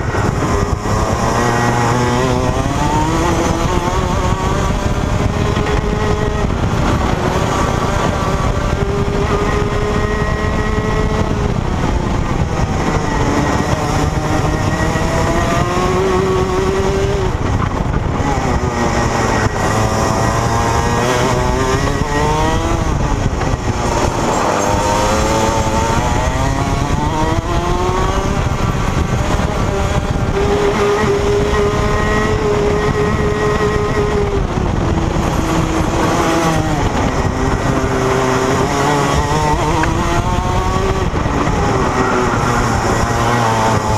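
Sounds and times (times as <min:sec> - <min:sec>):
kart engine revving: 0:00.0 - 0:43.9.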